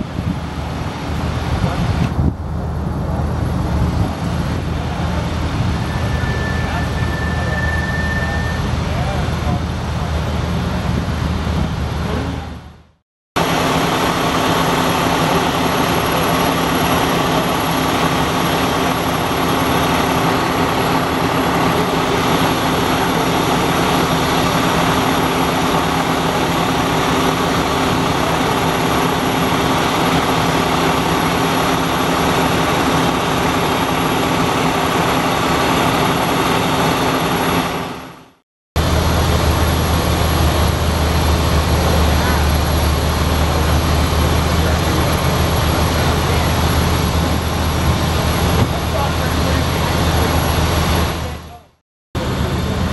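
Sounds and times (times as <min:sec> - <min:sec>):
large vehicle engine running: 0:00.0 - 0:52.9.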